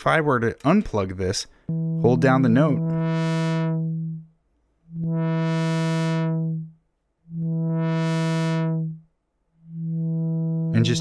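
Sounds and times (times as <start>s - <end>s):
synthesizer filter sweep: 1.7s - 11.0s.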